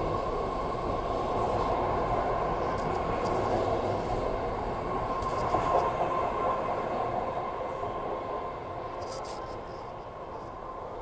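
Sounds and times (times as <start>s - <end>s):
subway train rumble and whine: 0.0s - 11.0s.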